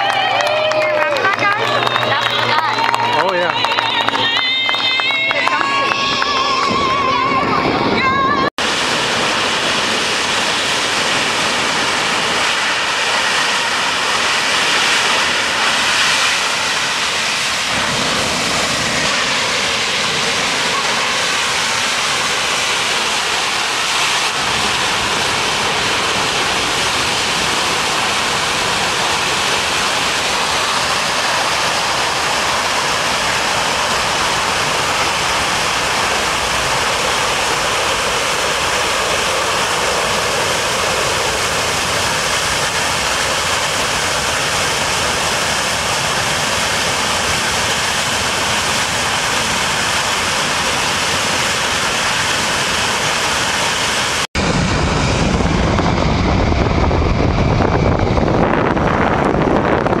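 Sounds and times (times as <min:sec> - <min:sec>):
jet engines running: 0:00.0 - 1:00.0.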